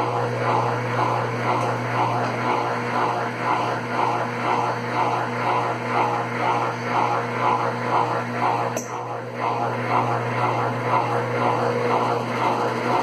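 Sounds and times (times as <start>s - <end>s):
washing machine motor hum: 0.0s - 13.0s
washing machine rhythmic swish: 0.0s - 13.0s.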